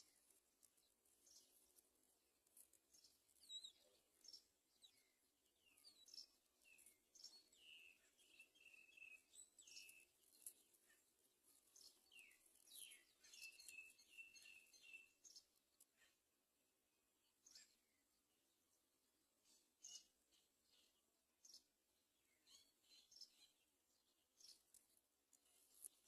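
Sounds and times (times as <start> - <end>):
faint bird chirps: 2.6 - 16.2, 17.2 - 18.2, 19.4 - 26.0.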